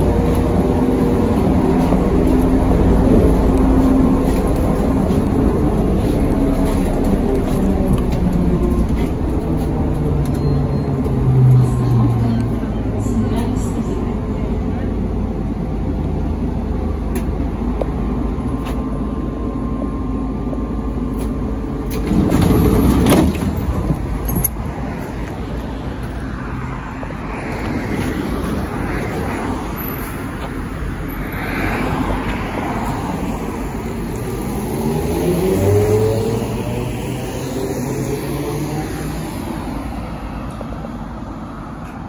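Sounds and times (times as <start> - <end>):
trolleybus running rumble: 0.0 - 42.0.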